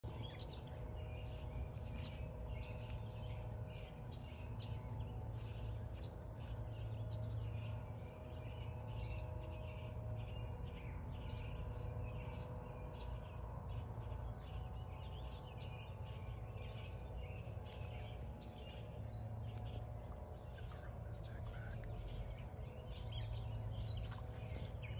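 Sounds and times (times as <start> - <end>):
small birds chirping: 0.0 - 24.9
steady low hum: 0.0 - 24.9.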